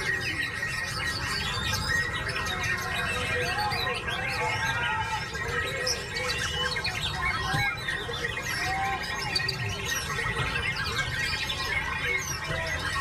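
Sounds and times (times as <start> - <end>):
bird singing chirps and whistles: 0.0 - 13.0.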